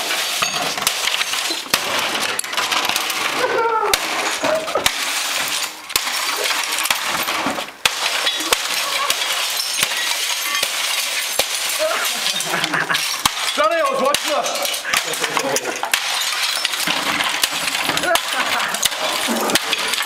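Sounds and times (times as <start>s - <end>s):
glass and plastic fragments clinking: 0.0s - 20.0s.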